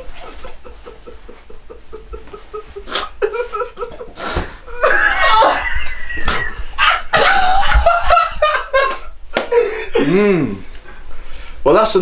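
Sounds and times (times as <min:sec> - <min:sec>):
loud laughter: 0:00.0 - 0:09.7.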